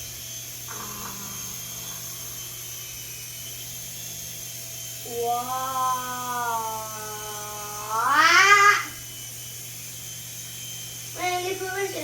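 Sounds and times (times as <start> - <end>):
toy helicopter motor whining: 0.0 - 12.0.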